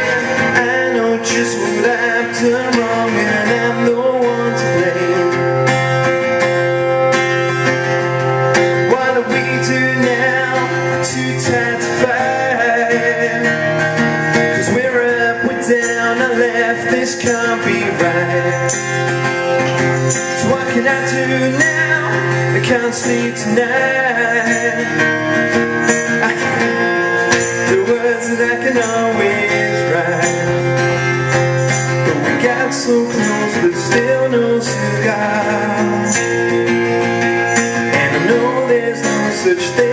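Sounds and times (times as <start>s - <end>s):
man singing: 0.0s - 6.5s, 7.6s - 39.9s
acoustic guitar strumming: 0.0s - 39.9s.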